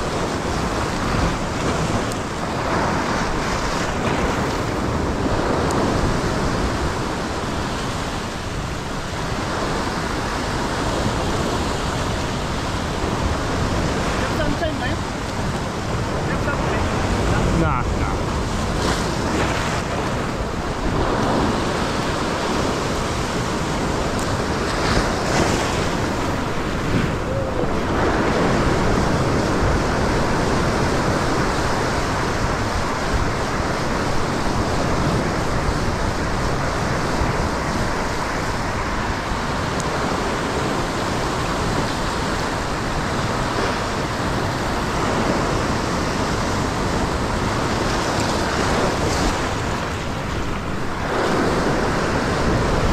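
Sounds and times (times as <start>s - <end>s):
ocean surf breaking on rocks: 0.0s - 52.9s
wind buffeting microphone: 0.0s - 52.9s.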